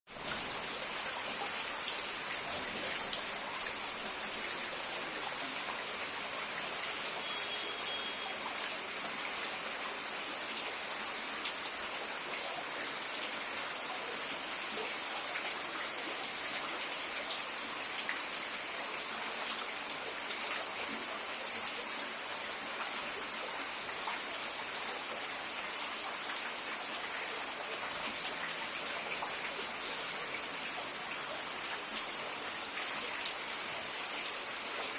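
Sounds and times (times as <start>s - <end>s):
heavy rain on plants: 0.1s - 34.9s.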